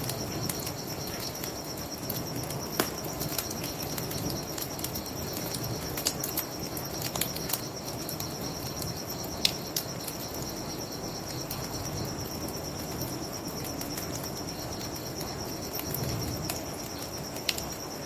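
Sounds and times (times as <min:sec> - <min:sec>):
crickets chirping: 0:00.0 - 0:18.0
wood fire crackling: 0:00.0 - 0:18.0.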